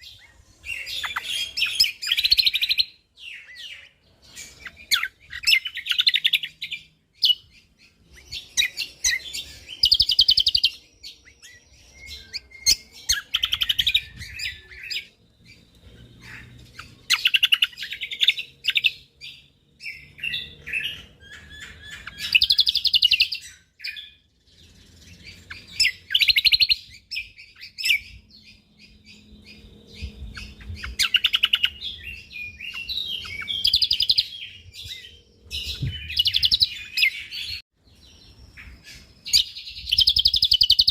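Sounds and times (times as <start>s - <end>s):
soft bird twittering: 0.0s - 40.9s
songbird trilling and chirping: 0.0s - 40.9s.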